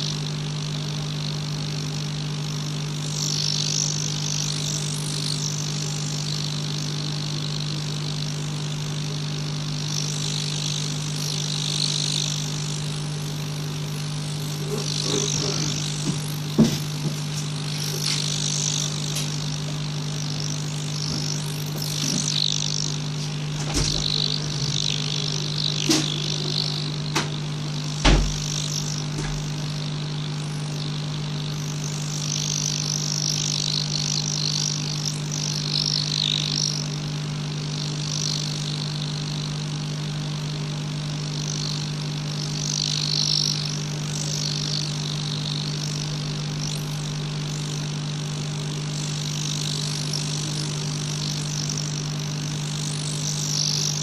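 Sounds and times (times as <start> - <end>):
hot air blower hissing: 0.0 - 54.0.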